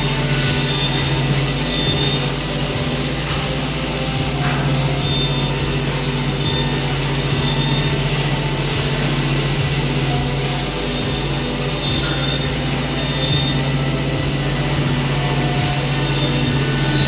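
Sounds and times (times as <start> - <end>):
high whine: 0.0 - 17.0
router machine hum: 0.0 - 17.0.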